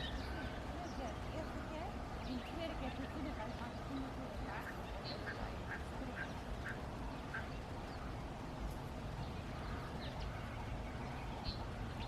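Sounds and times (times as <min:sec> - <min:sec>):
small birds chirping: 0:00.0 - 0:08.3, 0:09.1 - 0:12.0
low background noise: 0:00.0 - 0:12.0.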